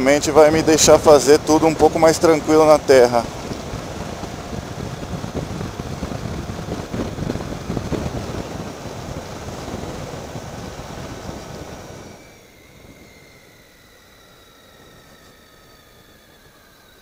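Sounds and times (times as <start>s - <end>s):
wind rushing over microphone: 0.0s - 16.9s
road and engine noise: 0.0s - 17.0s.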